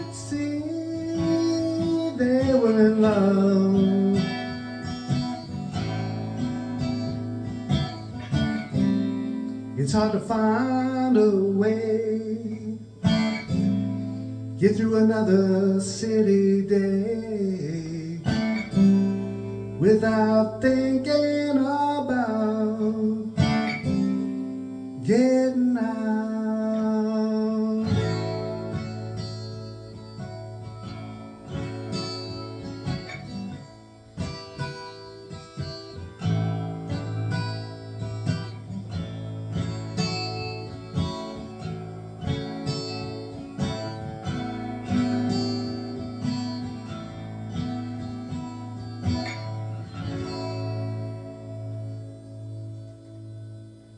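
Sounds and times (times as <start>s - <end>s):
acoustic guitar playing: 0.0s - 53.9s.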